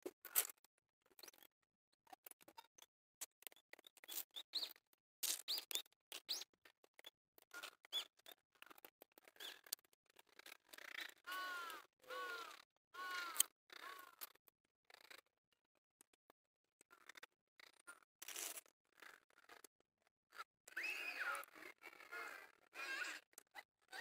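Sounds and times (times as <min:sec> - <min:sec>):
small birds chirping: 0:00.3 - 0:15.4, 0:16.8 - 0:24.0.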